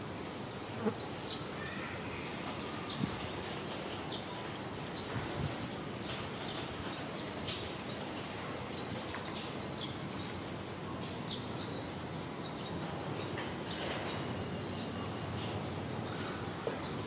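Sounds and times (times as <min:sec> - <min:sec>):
small birds chirping: 0:00.8 - 0:17.0.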